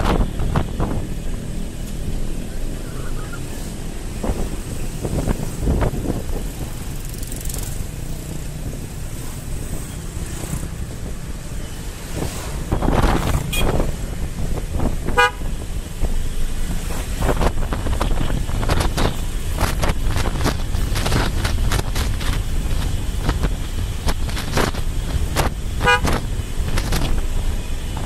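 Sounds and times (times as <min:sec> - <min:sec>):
motorcycle engine: 0:00.0 - 0:28.0
motorcycles passing: 0:00.0 - 0:28.0
wind rush: 0:00.0 - 0:28.0.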